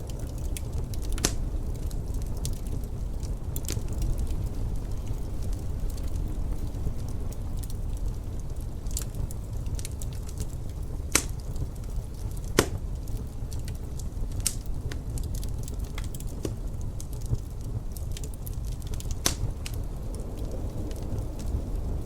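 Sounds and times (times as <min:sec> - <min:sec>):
low rumble of wind: 0:00.0 - 0:22.0
wood fire crackling and popping: 0:00.0 - 0:22.0.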